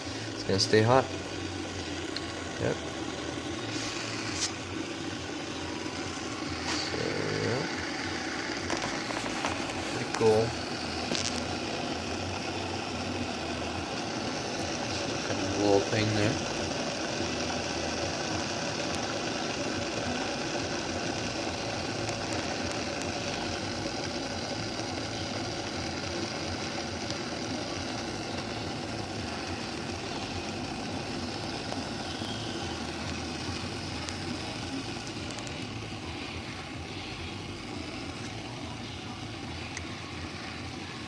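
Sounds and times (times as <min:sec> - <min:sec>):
electric kettle heating water: 0:00.0 - 0:41.0.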